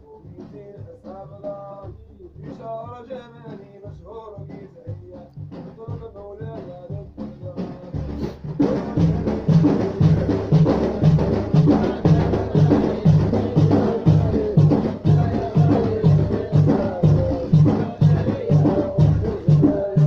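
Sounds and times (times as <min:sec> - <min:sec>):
steady drum beat: 0:00.0 - 0:20.0
instrumental band music: 0:00.2 - 0:20.0.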